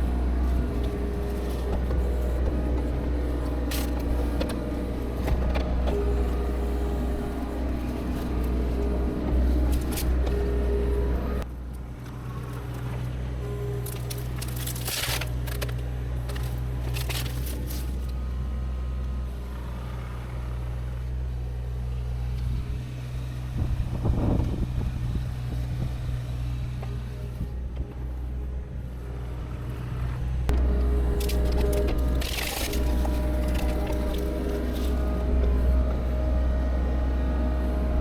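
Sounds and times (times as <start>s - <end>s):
heavy machine engine humming: 0.0s - 38.0s.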